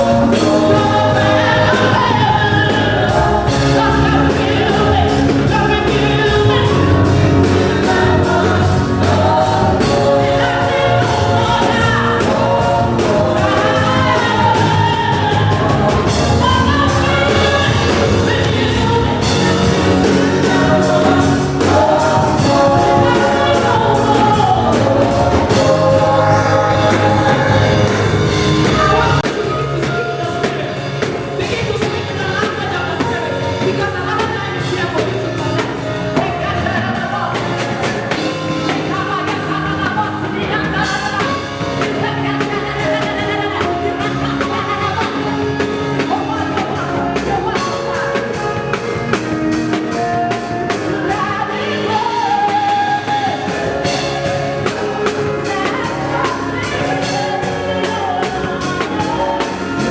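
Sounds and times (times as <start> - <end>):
drum kit beat: 0.0 - 59.9
singing over a band: 0.0 - 59.9.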